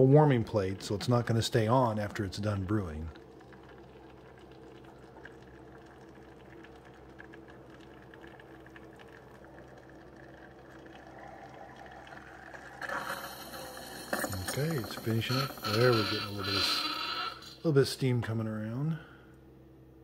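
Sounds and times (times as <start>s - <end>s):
pump hum: 0.0s - 20.0s
water running into carafe: 0.2s - 17.8s.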